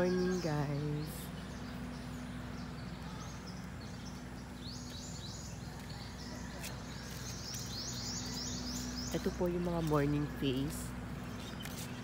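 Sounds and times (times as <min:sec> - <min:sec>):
birds chirping: 0:00.0 - 0:12.0
low hum: 0:00.0 - 0:12.0.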